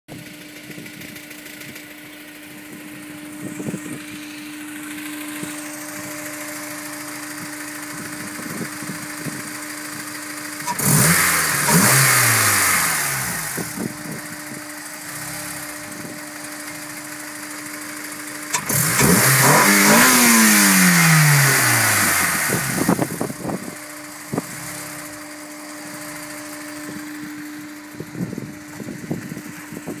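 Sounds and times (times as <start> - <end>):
car engine idling and revving: 0.1 - 30.0.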